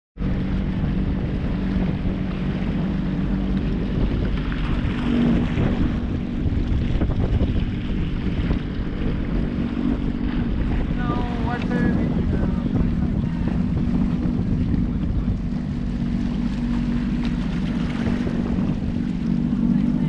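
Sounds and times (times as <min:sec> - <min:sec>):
jet ski engine running: 0:00.2 - 0:20.0
wind buffeting microphone: 0:00.2 - 0:20.0.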